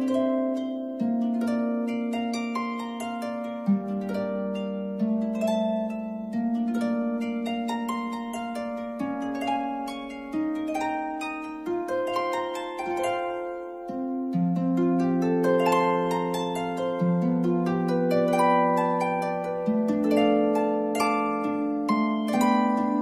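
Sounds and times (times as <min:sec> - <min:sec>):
plucked string melody: 0:00.0 - 0:23.0.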